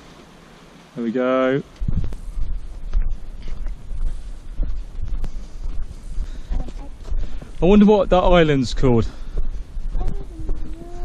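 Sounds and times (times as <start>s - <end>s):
wind buffeting microphone: 1.8s - 11.0s.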